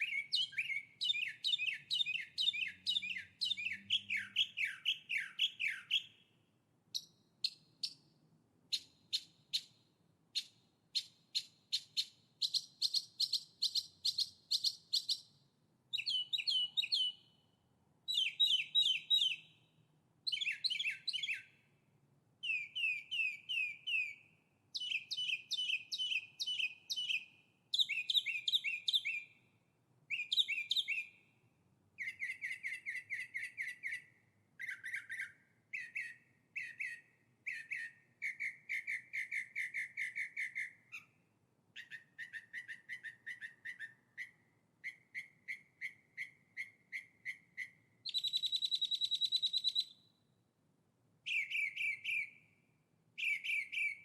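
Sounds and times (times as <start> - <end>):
songbird trilling: 0.0 - 6.3, 7.0 - 8.0, 10.4 - 17.4, 18.1 - 19.6, 20.3 - 21.6, 22.4 - 29.4, 30.1 - 31.2, 32.0 - 41.2, 41.8 - 50.0, 51.3 - 52.4, 53.2 - 54.0.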